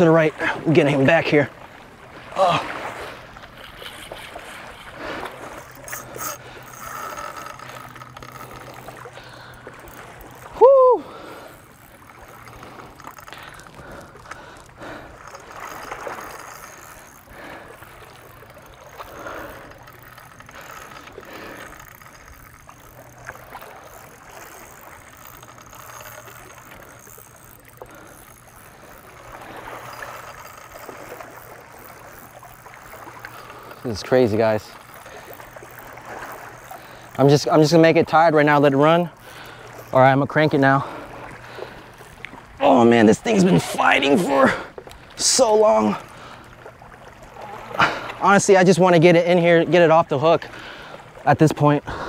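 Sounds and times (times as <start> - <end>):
waves lapping on rocks: 0.0 - 52.0.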